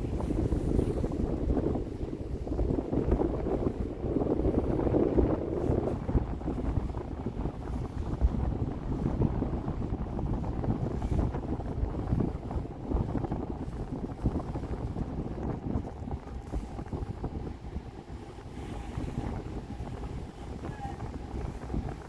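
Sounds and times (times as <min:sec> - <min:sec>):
low rumble of ferry and water: 0:00.0 - 0:22.0
wind buffeting microphone: 0:00.0 - 0:22.0.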